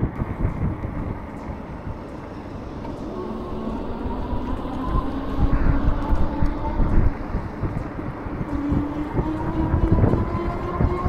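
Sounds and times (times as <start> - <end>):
machine-like hum: 0.0 - 11.0
wind rumbling on microphone: 0.0 - 11.0.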